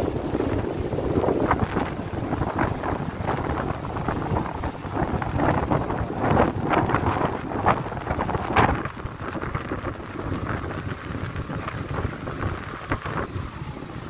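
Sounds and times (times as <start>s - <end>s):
heavy rain pouring: 0.0s - 14.0s
wind buffeting microphone: 0.0s - 14.0s.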